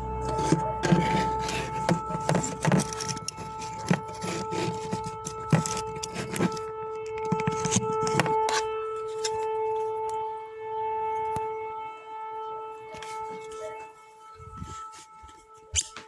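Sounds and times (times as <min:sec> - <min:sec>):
air-raid siren: 0:00.0 - 0:16.0.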